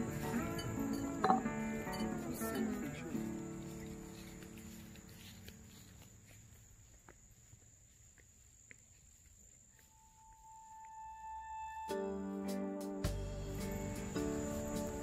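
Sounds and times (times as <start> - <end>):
faint crickets trilling: 0.0 - 12.0, 13.1 - 15.0.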